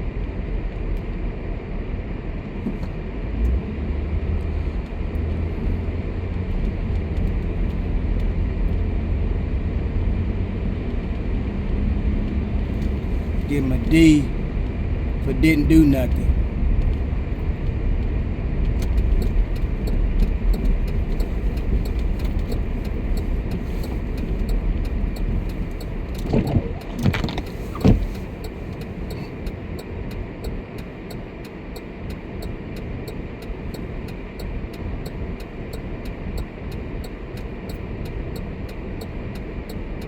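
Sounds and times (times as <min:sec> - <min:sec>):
engine and tyres rumbling: 0:00.0 - 0:40.0.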